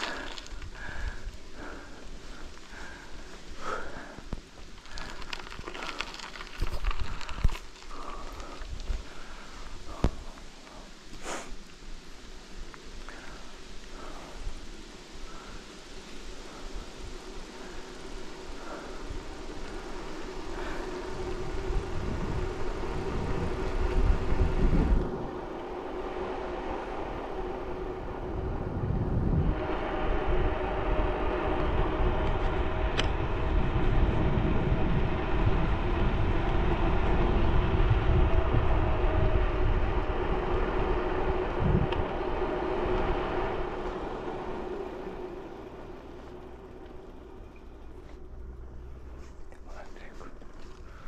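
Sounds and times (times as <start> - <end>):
wind buffeting microphone: 0.0 - 10.4, 16.5 - 47.7
bicycle tyres on road: 0.0 - 51.0.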